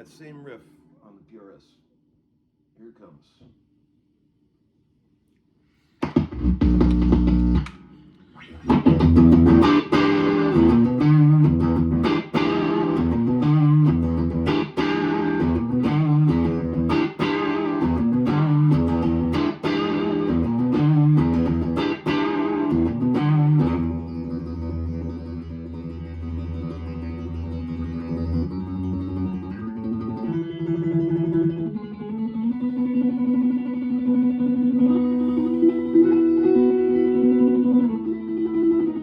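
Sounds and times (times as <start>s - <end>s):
electric guitar riff: 6.0s - 39.0s.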